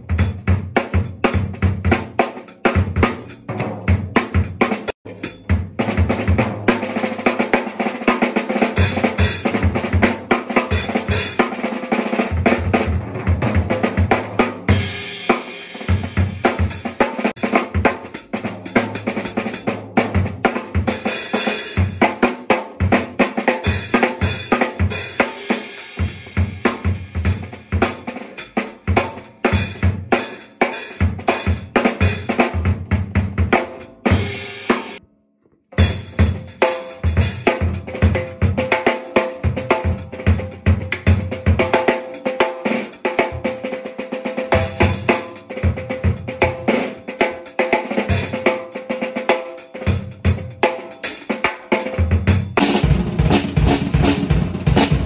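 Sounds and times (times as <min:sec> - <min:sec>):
snare and bass drum strokes: 0:00.0 - 0:35.0, 0:35.8 - 0:55.0.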